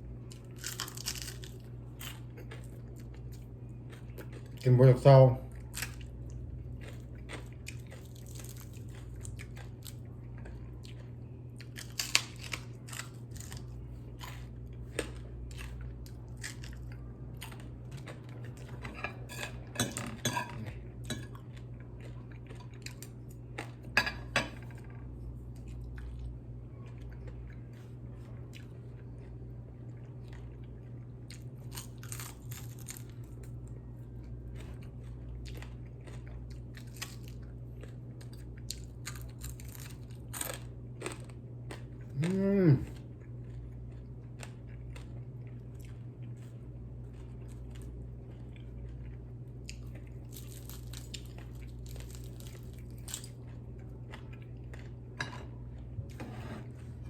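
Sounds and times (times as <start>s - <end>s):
steady low hum: 0.0s - 57.0s
chewing and crunching: 0.1s - 57.0s.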